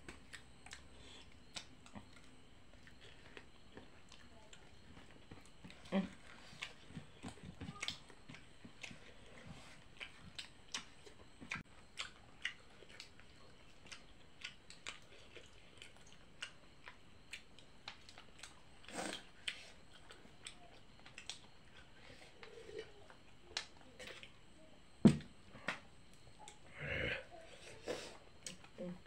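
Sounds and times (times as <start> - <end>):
person chewing food: 0.0 - 24.5, 27.5 - 28.8.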